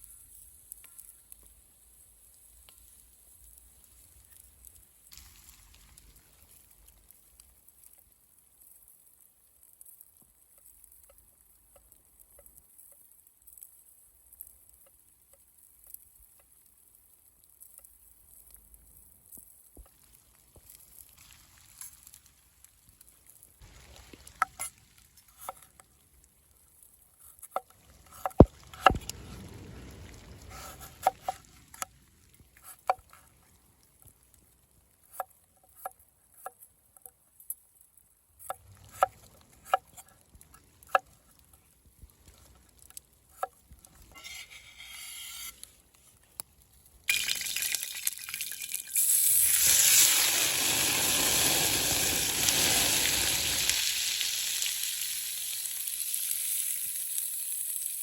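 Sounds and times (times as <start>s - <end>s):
food sizzling in hot fat: 0.0s - 35.2s, 41.8s - 58.0s.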